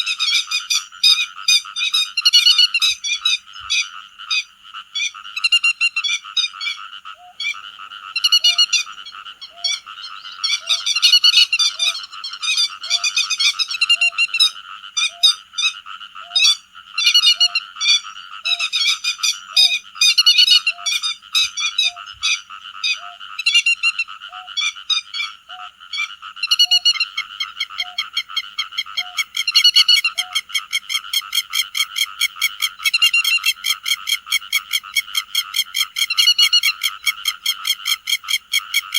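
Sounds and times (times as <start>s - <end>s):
chorus of bird calls: 0.0s - 38.9s.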